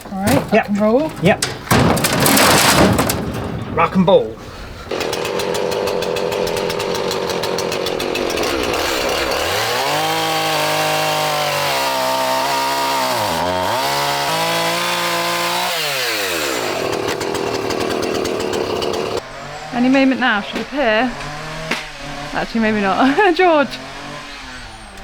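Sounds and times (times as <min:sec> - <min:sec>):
tractor engine revving: 0:00.0 - 0:25.0.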